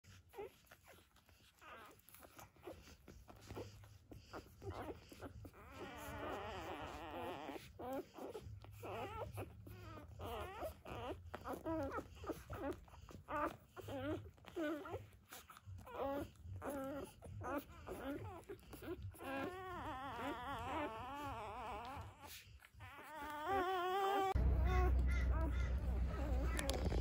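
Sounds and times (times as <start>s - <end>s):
puppies squeaking and whining: 0.0s - 27.0s.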